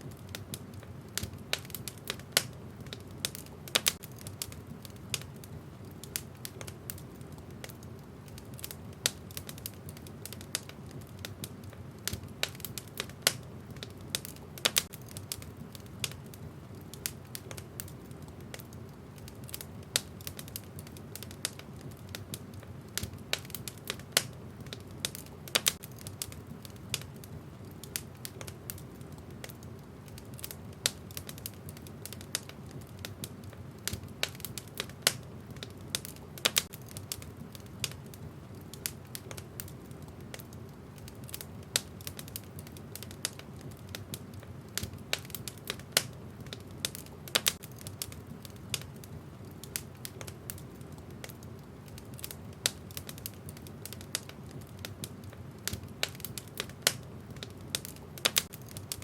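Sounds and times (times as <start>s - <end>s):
low fire rumble: 0.0s - 59.0s
wood fire crackling: 0.0s - 59.0s.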